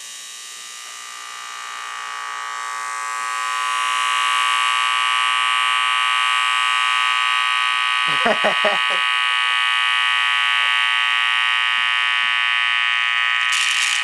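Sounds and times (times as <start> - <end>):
loud steady electrical buzz: 0.0 - 14.0.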